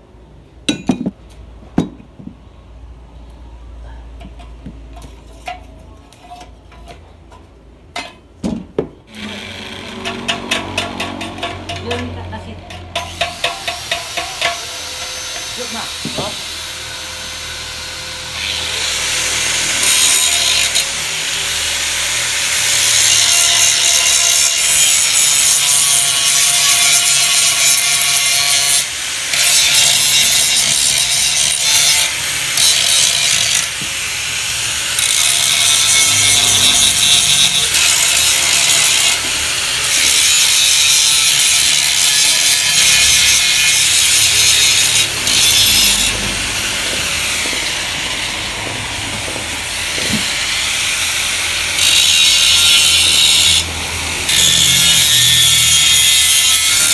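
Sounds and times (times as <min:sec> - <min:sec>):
power tool grinding steel: 0:09.1 - 0:56.9.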